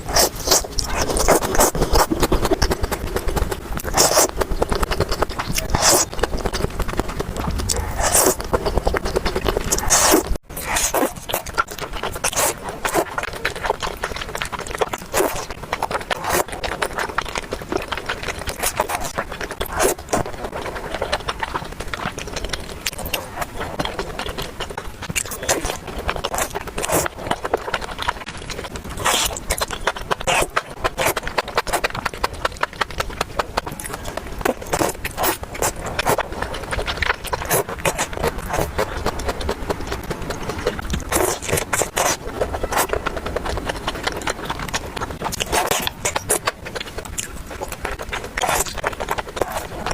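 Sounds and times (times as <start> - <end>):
chewing with wet smacks: 0.0 - 49.9
crunchy clicks: 0.0 - 49.9.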